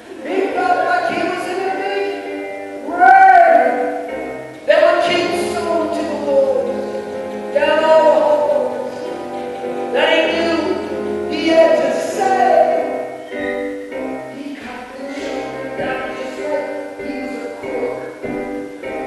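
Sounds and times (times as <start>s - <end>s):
person singing: 0.0s - 4.0s, 4.7s - 13.6s, 14.3s - 19.0s
acoustic guitar: 0.0s - 19.0s.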